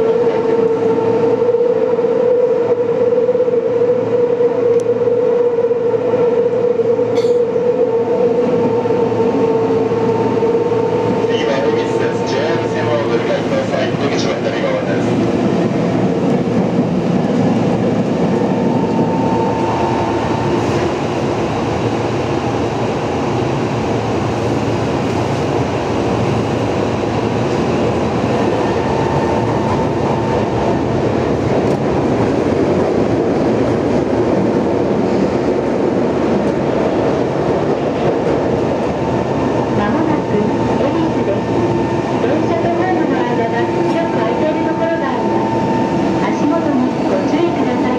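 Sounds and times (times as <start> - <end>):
subway train wheels on rail: 0.0 - 47.9.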